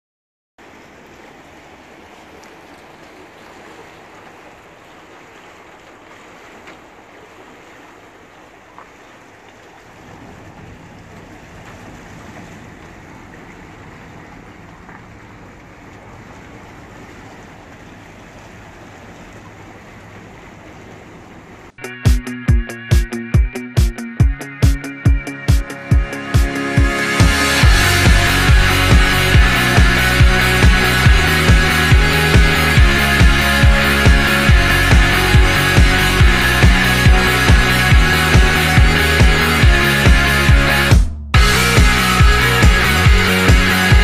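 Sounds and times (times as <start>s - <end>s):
rushing water: 0.6s - 44.0s
speedboat engine drone: 0.6s - 44.0s.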